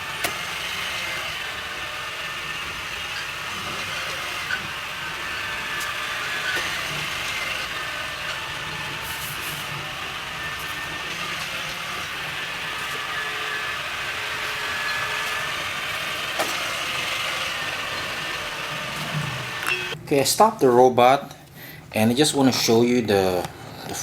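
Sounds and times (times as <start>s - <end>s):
robot vacuum motors whirring: 0.0s - 20.0s.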